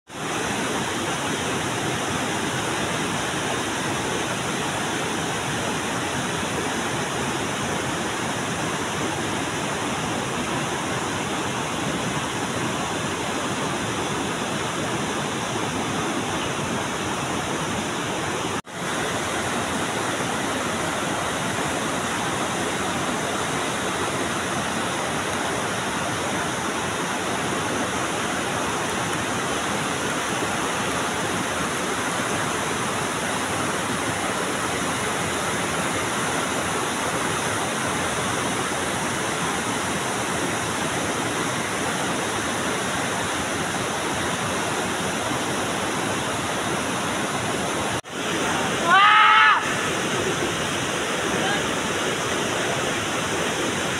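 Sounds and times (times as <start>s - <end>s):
river rapids rushing: 0.1s - 53.9s.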